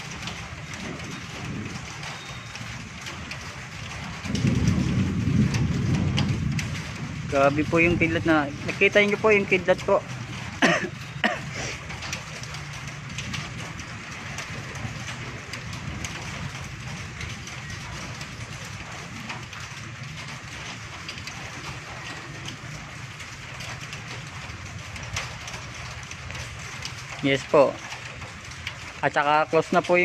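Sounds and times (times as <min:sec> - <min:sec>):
outdoor rumble and hiss: 0:00.0 - 0:30.0.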